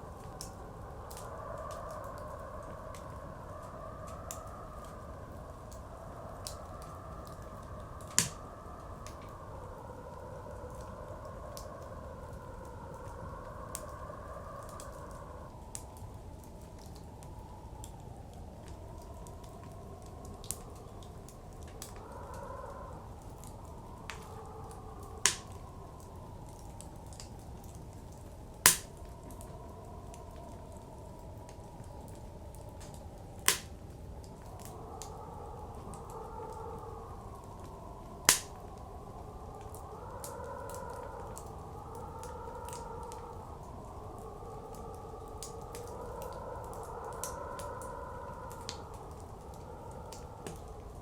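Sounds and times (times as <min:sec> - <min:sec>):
howling blizzard wind: 0:00.0 - 0:51.0
wood fire crackling: 0:00.0 - 0:51.0.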